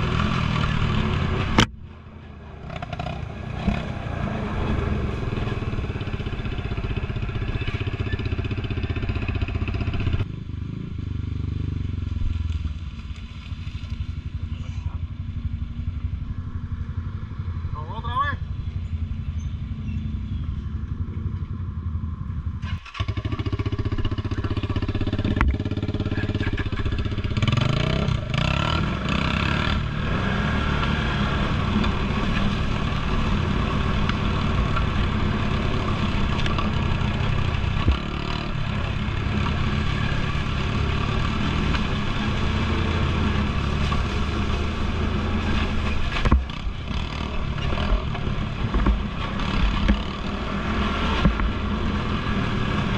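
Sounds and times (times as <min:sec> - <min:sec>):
atv engine running: 0:00.0 - 0:52.9.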